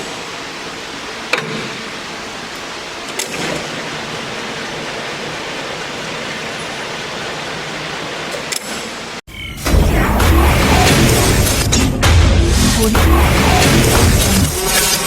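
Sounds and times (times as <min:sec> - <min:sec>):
machine running steadily: 0:00.0 - 0:15.0.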